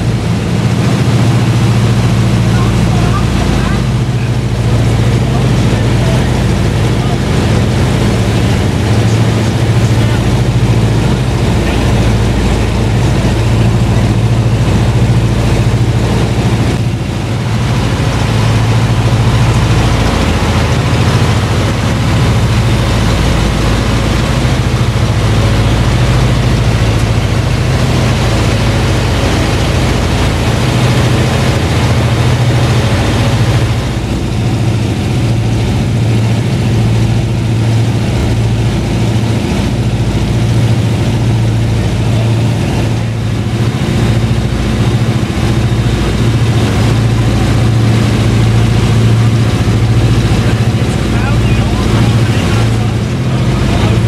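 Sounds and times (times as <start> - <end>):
aircraft engines droning: 0.0 - 54.0
rushing air noise: 0.0 - 54.0.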